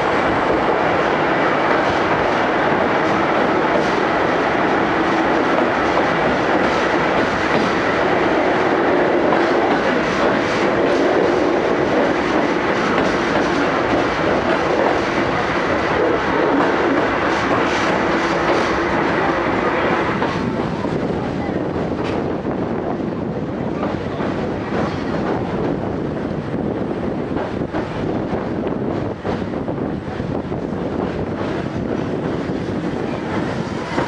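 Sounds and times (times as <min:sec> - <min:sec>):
rail joint clicks: 0:00.0 - 0:22.8, 0:23.6 - 0:34.0
train wheels rumbling on rails: 0:00.0 - 0:34.0.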